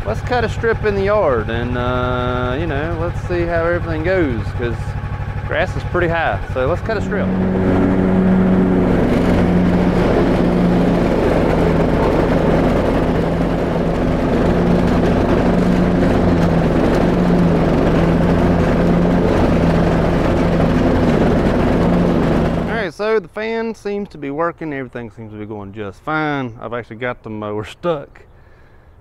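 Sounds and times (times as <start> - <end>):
riding mower engine running: 0.0 - 24.1.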